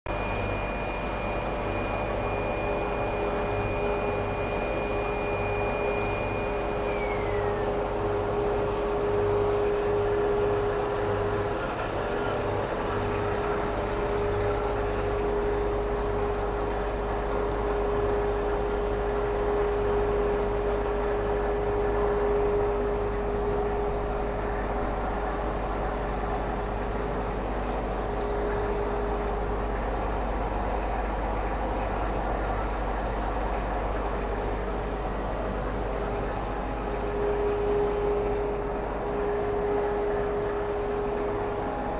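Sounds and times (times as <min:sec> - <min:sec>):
high machine whine: 0:00.1 - 0:41.9
industrial machine hum: 0:00.1 - 0:41.9.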